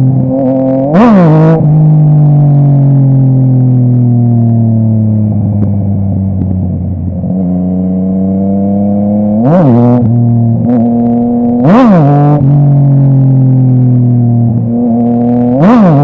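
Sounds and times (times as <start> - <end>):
motorcycle engine running: 0.0 - 16.0
motorcycle throttle blips: 0.0 - 16.0.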